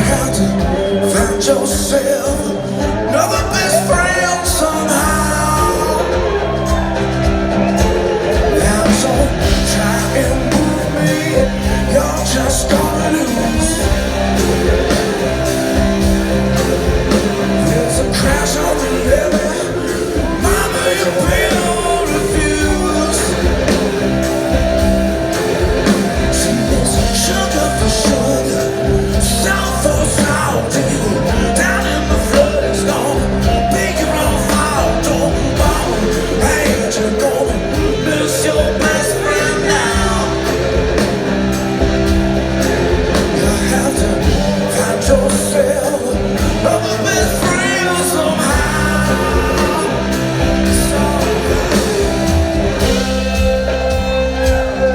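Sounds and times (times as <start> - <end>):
person singing: 0.0 - 54.9
rock band playing: 0.0 - 54.9.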